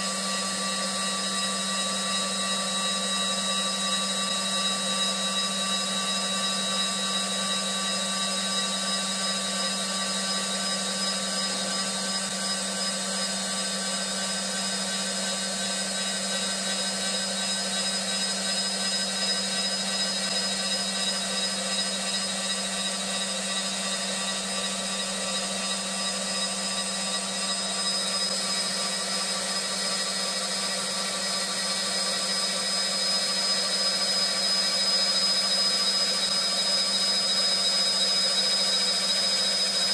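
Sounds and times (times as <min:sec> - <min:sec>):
lathe machine whine: 0:00.0 - 0:39.9.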